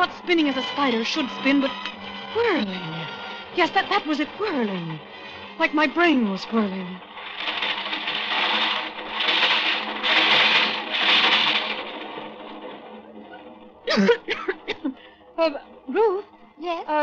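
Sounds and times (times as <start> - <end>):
subway train rattling roar: 0.0 - 14.8.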